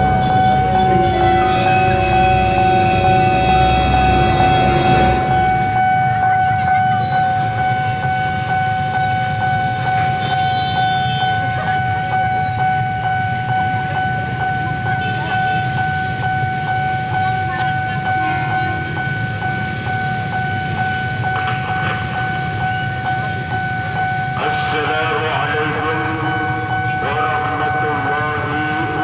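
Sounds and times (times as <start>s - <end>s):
level crossing alarm ringing: 0.0s - 29.0s
low rumble of traffic: 0.0s - 29.0s.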